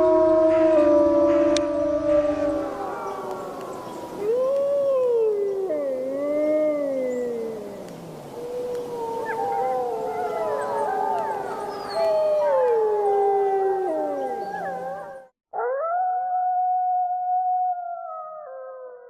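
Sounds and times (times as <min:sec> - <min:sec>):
wolves howling together: 0:00.0 - 0:16.0
single wolf howl: 0:00.0 - 0:16.5.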